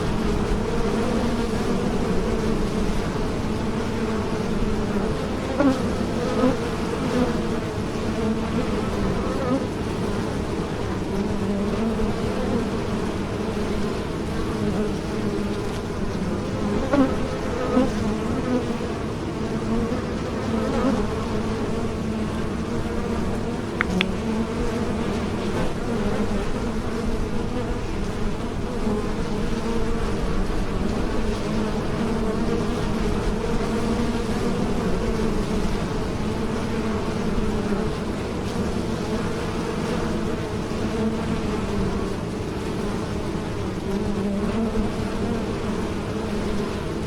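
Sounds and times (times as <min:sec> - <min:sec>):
bees buzzing: 0:00.0 - 0:47.0.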